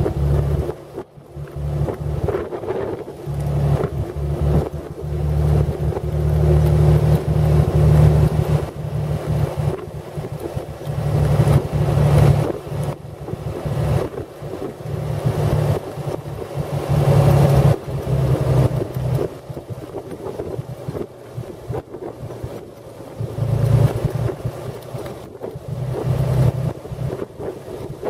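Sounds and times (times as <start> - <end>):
car engine running: 0.0 - 28.0
wind rumbling on microphone: 0.0 - 28.0.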